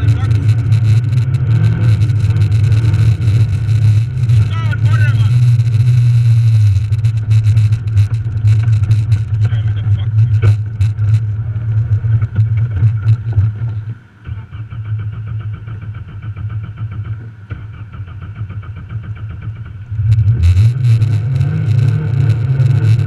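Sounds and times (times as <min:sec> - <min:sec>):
car engine revving and idling: 0:00.0 - 0:23.0.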